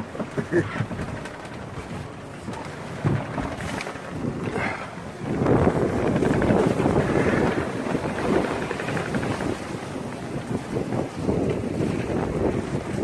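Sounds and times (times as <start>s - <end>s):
sea water rushing along hull: 0.0s - 13.0s
wind buffeting microphone: 0.0s - 13.0s.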